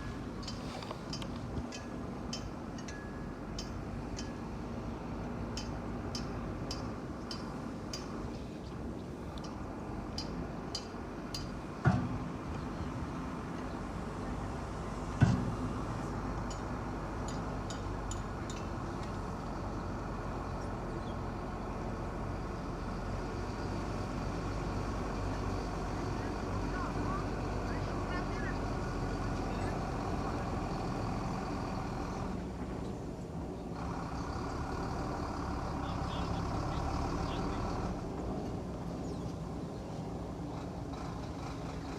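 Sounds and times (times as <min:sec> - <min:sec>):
heavy machinery diesel engine: 0:00.0 - 0:41.9.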